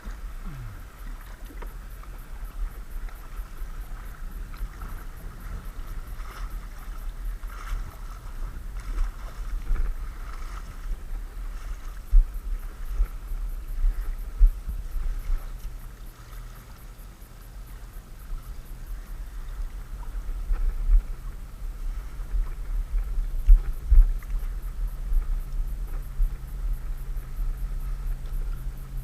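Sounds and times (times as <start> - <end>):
faint low hum: 0.0 - 29.0
wind buffeting microphone: 0.0 - 29.0.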